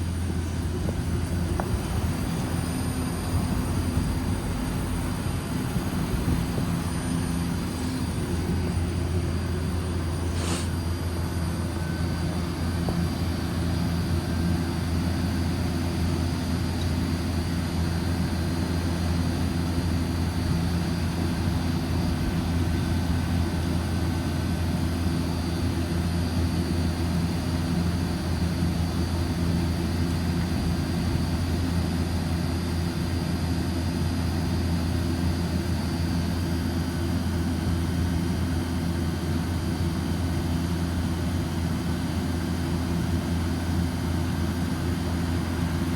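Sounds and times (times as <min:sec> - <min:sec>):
chiller humming: 0:00.0 - 0:45.9.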